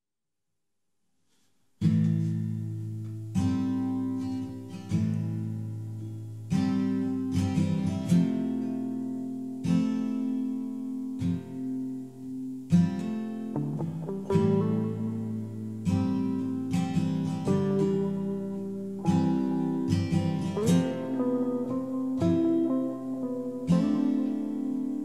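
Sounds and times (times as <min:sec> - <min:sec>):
acoustic guitar strumming chords: 0:01.8 - 0:25.0.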